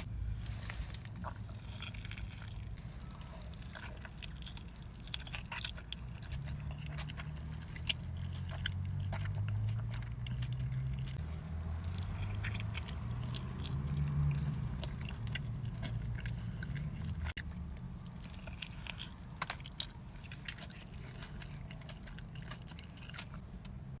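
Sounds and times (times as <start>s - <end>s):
wet chewing and biting: 0.5s - 24.0s.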